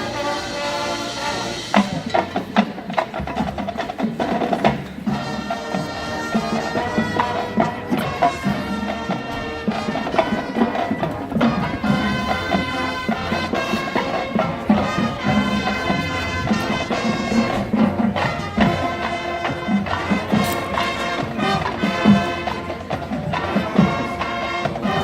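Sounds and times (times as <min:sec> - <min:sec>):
brass and woodwinds chords: 0:00.0 - 0:25.0
drumline beat: 0:00.0 - 0:25.0.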